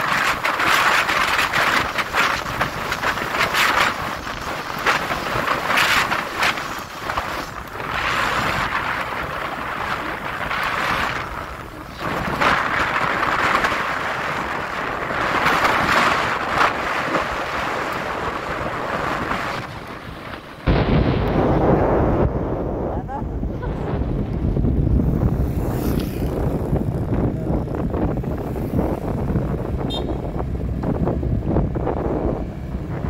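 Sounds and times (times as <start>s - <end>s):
deep wind buffeting: 0.0s - 33.0s
wind rushing over microphone: 0.0s - 33.0s.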